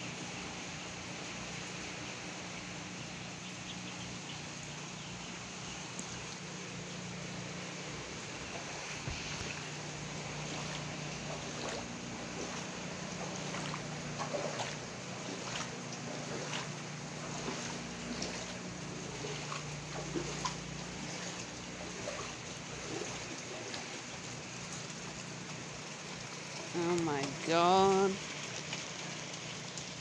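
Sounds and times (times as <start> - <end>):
bare feet splashing through water: 3.2 - 30.0.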